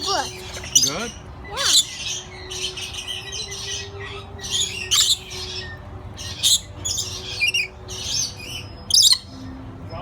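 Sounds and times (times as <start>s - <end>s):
parrots squawking: 0.0s - 9.4s.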